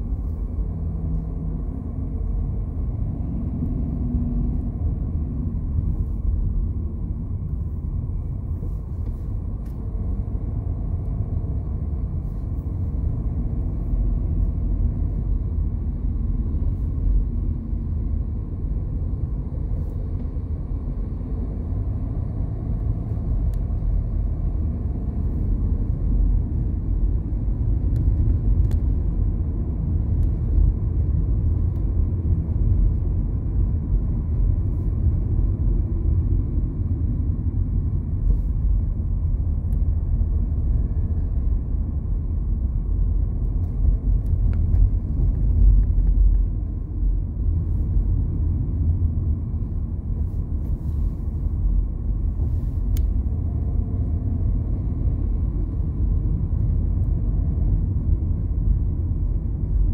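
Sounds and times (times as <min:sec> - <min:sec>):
car driving on highway: 0:00.0 - 0:59.9.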